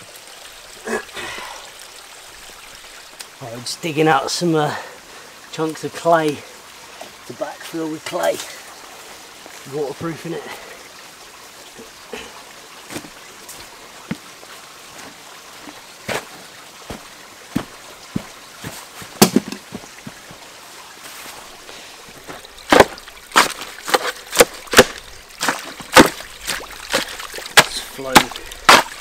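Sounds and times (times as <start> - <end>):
stream trickling: 0.0 - 29.0.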